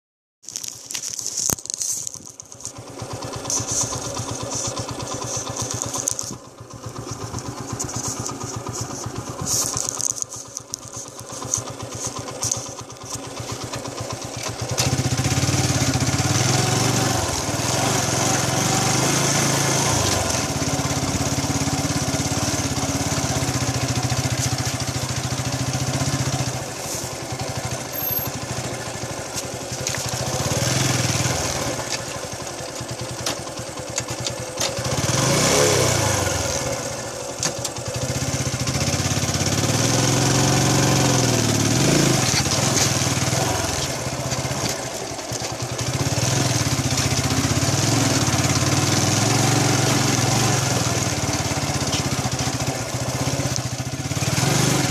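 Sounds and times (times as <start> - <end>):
motorcycle engine running: 0.5 - 54.9.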